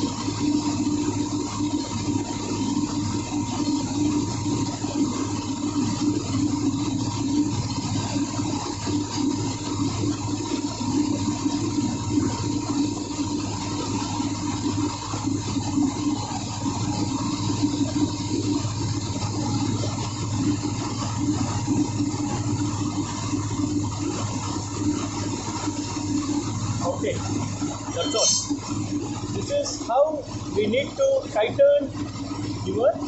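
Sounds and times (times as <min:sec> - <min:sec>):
engine-room machinery humming: 0:00.0 - 0:33.0.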